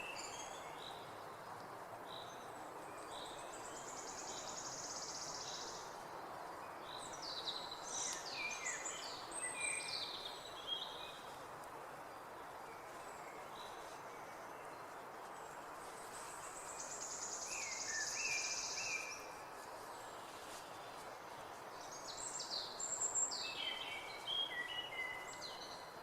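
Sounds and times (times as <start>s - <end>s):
small birds singing: 0.0s - 11.4s, 12.0s - 26.0s
steady background hiss: 0.0s - 26.0s.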